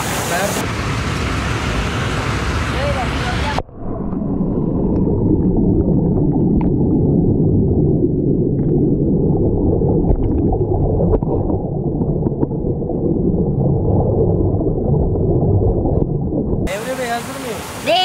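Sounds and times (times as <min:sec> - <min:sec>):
underwater rumble and air bubbles: 0:00.5 - 0:16.7.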